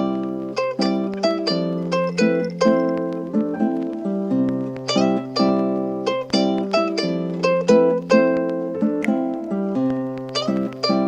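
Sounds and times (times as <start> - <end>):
plucked string chords: 0.0 - 11.0.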